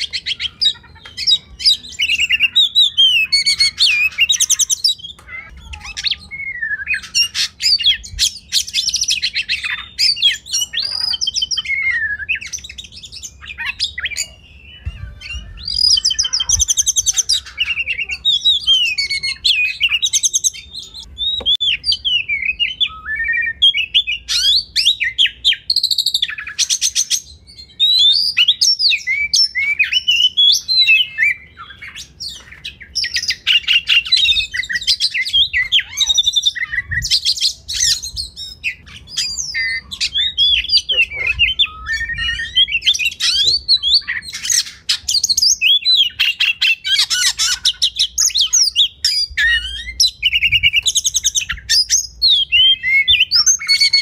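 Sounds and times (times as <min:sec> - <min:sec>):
bird harsh chattering: 0:00.0 - 0:23.0, 0:23.8 - 0:54.0
bird singing varied song: 0:00.0 - 0:54.0.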